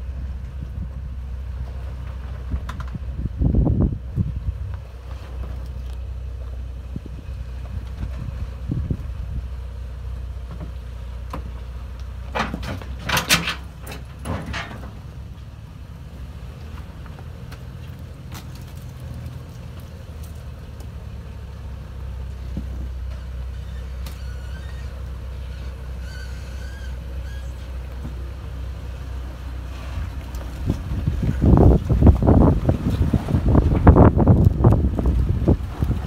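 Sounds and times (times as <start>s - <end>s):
vehicle engine running slowly: 0.0s - 13.0s, 13.6s - 36.0s.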